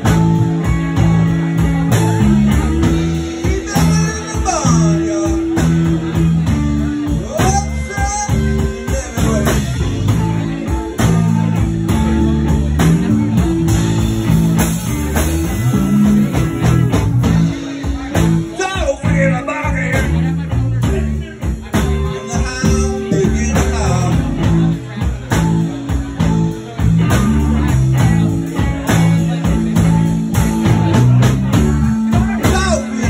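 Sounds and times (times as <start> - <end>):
electric blues guitar: 0.0 - 33.0
person singing: 0.0 - 33.0.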